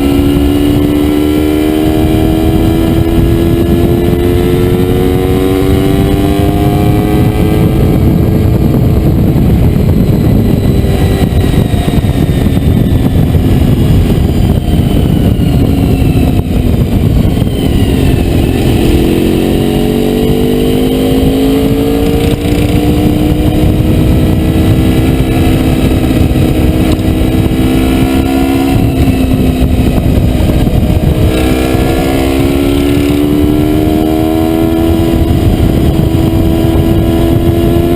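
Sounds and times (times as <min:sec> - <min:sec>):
motorcycle engine running: 0:00.0 - 0:37.9
wind rushing over microphone: 0:00.0 - 0:37.9.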